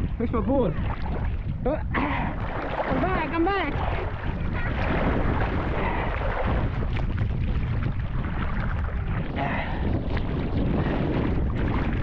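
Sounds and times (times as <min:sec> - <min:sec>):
water splashing and sloshing: 0:00.0 - 0:12.0
wind buffeting microphone: 0:00.0 - 0:12.0.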